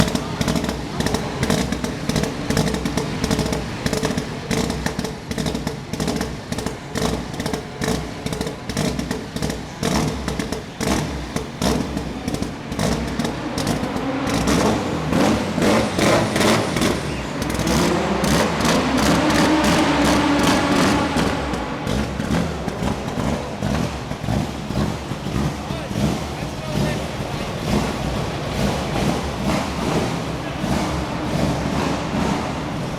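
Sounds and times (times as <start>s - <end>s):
car engine idling roughly: 0.0s - 32.9s
exhaust cracks: 0.0s - 32.9s.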